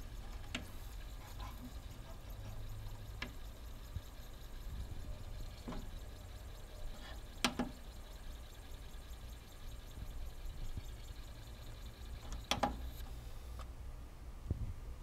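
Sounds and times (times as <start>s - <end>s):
cd player disc whir: 0.0s - 13.8s.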